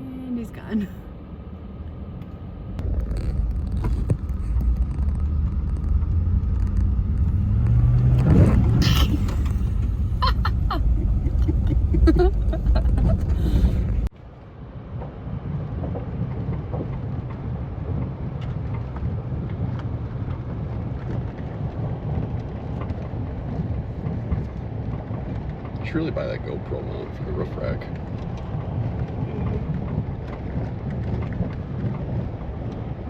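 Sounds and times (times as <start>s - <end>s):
truck engine and road rumble: 0.0s - 33.0s.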